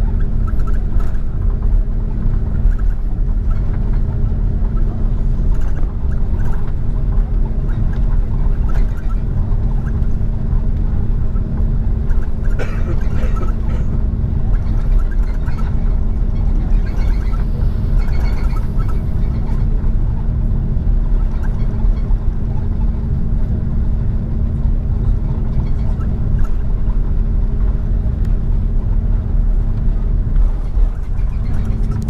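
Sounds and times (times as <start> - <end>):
aircraft cabin rumble: 0.0 - 32.0
constant hum: 0.0 - 32.0.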